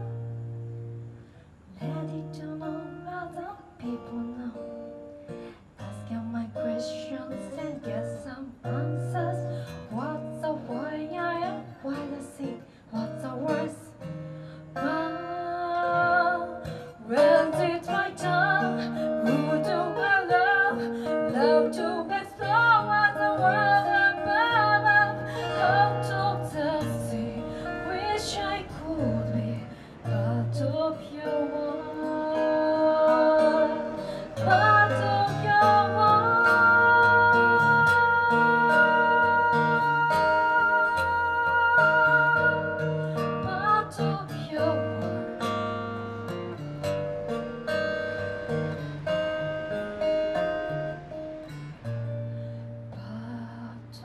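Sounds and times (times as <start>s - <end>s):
acoustic guitar: 0.0s - 54.0s
woman singing into a microphone: 1.7s - 46.2s, 52.9s - 54.0s.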